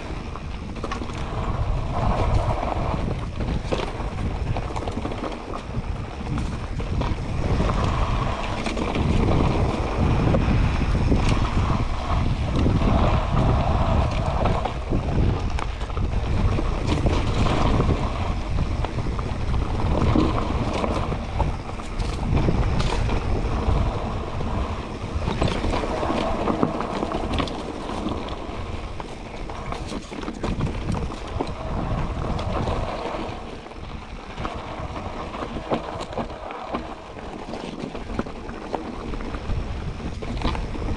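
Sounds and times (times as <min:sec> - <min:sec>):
bike tyre noise on dirt: 0:00.0 - 0:40.9
wind rushing over microphone: 0:00.0 - 0:40.9.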